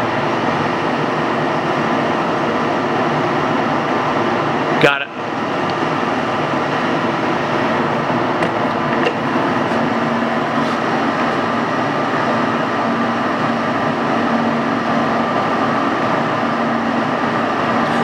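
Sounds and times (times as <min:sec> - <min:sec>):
lathe mechanical hum: 0:00.0 - 0:18.0.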